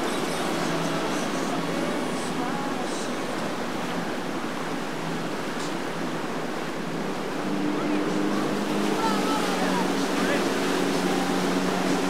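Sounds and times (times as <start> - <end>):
boat engine droning: 0.0 - 12.0
water churning: 0.0 - 12.0.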